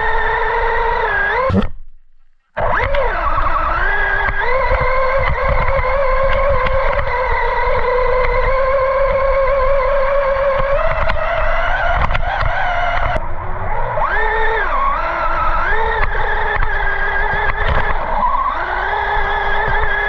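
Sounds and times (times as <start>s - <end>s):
rc car electric motor whining: 3.5s - 20.0s.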